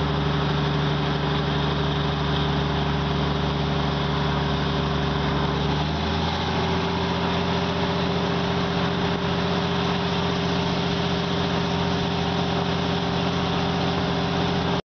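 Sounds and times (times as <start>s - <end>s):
diesel engine drone: 0.0s - 14.8s.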